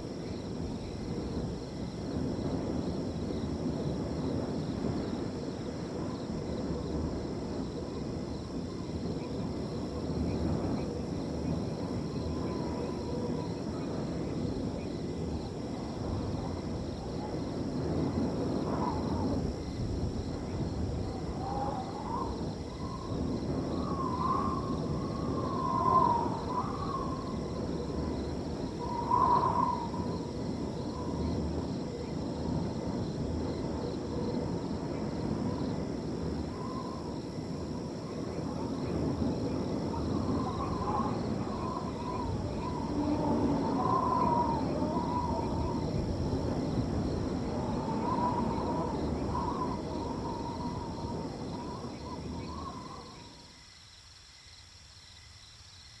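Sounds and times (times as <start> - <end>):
wind blowing: 0.0 - 53.6
crickets trilling: 0.0 - 56.0.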